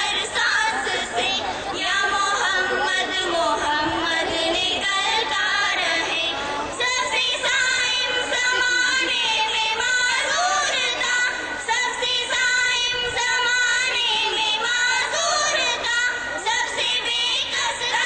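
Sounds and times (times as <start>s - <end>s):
girls singing over loudspeakers: 0.0s - 18.0s.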